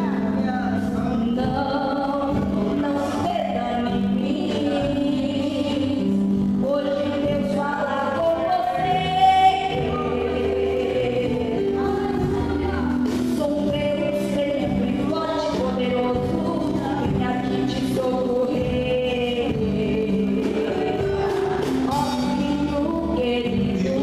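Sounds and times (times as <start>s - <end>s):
musical backing: 0.0s - 24.0s
vocal group singing in harmony: 0.0s - 24.0s.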